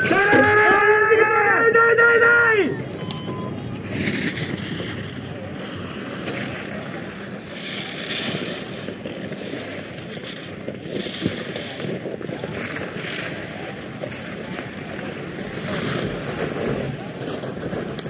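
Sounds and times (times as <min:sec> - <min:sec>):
skis scraping snow: 0:02.6 - 0:18.0.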